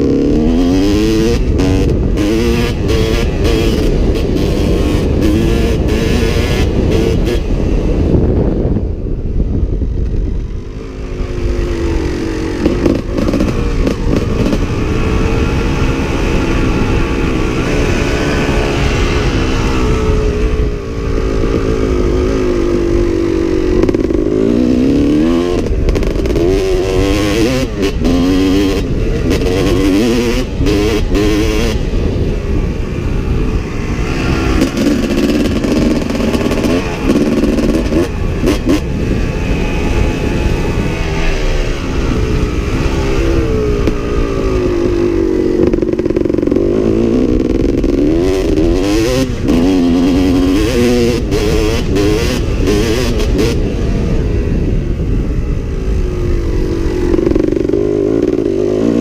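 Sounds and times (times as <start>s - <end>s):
dirt bike engine revving: 0.0s - 8.7s, 10.1s - 59.0s.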